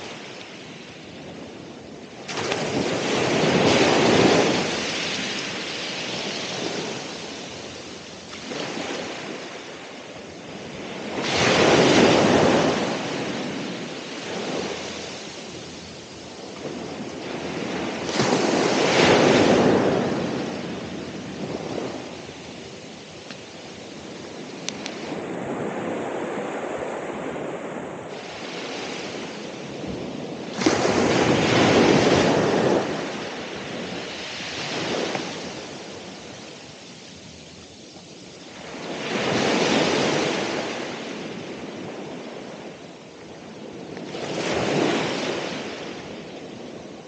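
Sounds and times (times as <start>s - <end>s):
ocean waves breaking: 0.0s - 47.0s.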